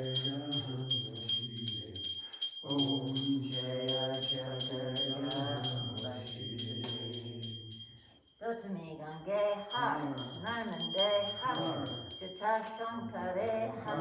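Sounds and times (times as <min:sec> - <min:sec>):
small metal bell rung rapidly: 0:00.0 - 0:08.4, 0:09.2 - 0:12.9
group singing devotional chant: 0:00.0 - 0:14.0.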